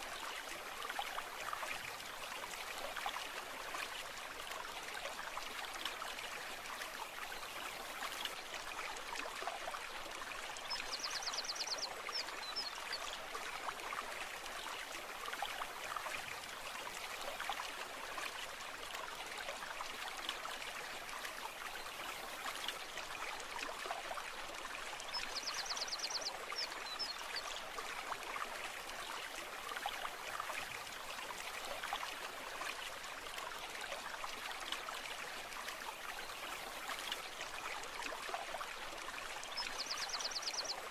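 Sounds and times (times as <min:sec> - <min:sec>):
brook water babbling: 0:00.0 - 0:40.9.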